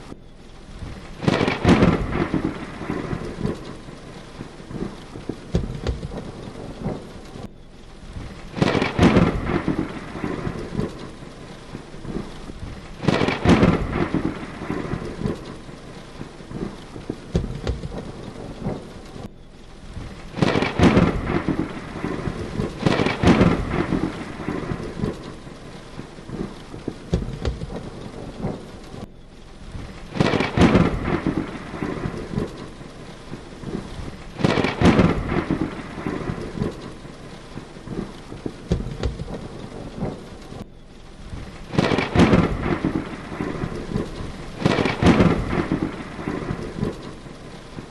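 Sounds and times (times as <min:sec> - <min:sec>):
heavy rain: 0:00.0 - 0:47.9
thunder booming: 0:00.8 - 0:07.4, 0:08.1 - 0:19.3, 0:19.9 - 0:40.6, 0:41.3 - 0:47.9.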